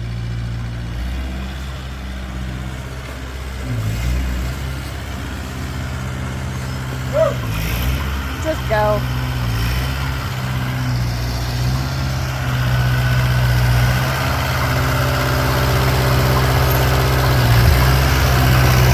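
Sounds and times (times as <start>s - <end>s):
tractor engine idling: 0.0s - 18.9s.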